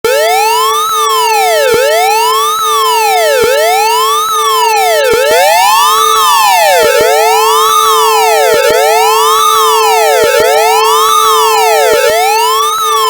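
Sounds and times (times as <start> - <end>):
synthesized siren wailing: 0.0 - 13.0.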